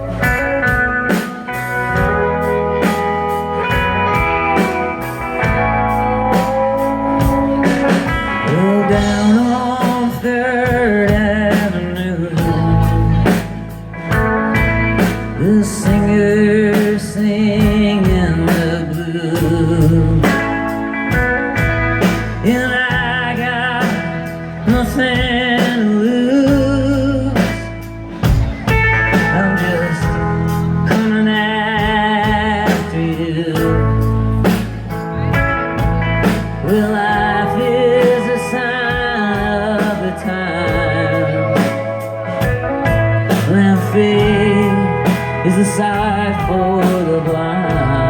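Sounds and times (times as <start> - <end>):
drums: 0.0 - 48.0
steady bass: 0.0 - 48.0.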